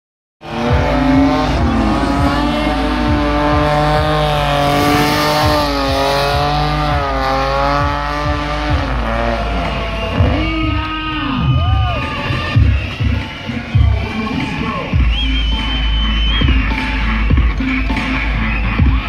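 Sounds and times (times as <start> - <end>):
car engine revving high: 0.4 - 19.0
tyres spinning in burnout: 0.4 - 19.0.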